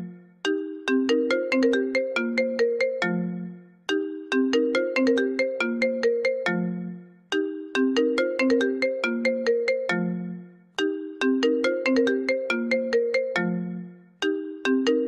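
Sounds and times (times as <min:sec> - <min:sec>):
phone ringtone melody: 0:00.0 - 0:15.0.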